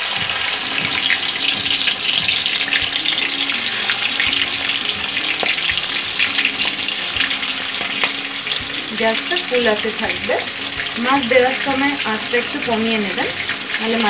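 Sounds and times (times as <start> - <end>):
prawns sizzling in hot oil: 0.0 - 14.0.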